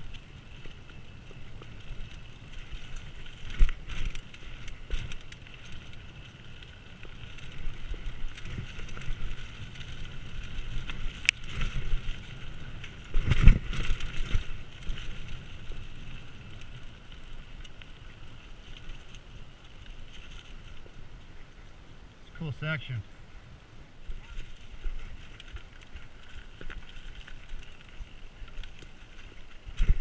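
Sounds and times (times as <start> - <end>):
bike rattling and clicking: 0.0 - 21.5, 24.1 - 30.0
bike tyres on dirt: 0.0 - 30.0.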